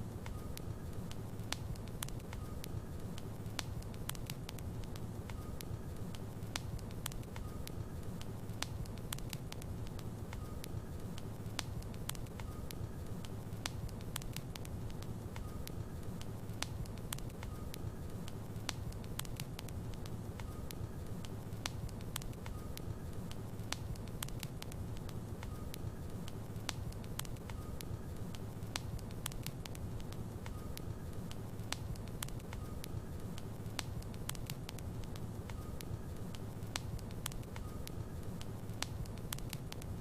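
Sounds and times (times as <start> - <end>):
fire crackling and popping: 0.0 - 40.0
low rumble of flames: 0.0 - 40.0.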